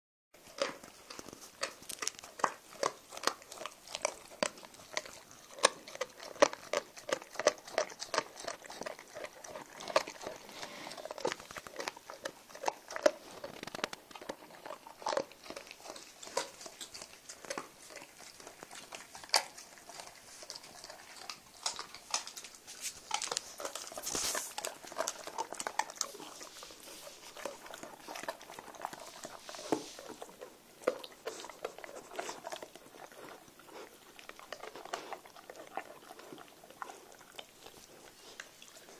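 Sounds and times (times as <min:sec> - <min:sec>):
dogs gnawing a chew: 0:00.4 - 0:38.9.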